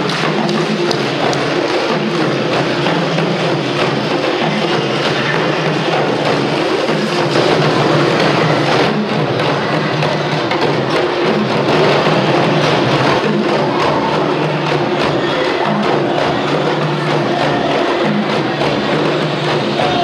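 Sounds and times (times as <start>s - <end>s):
djembes played by hand: 0.0s - 20.0s.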